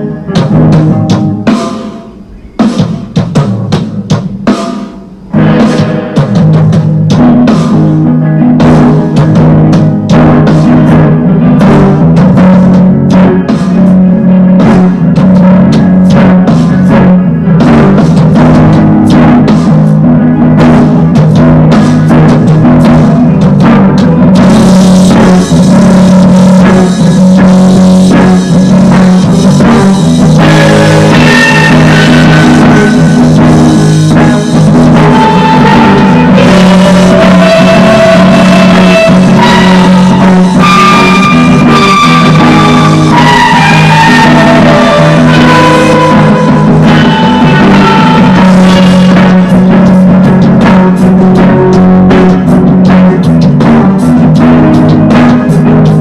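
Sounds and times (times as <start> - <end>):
droning low guitar: 0.0 - 1.6, 5.3 - 56.0
drum kit: 0.0 - 56.0
held high guitar notes: 0.0 - 56.0.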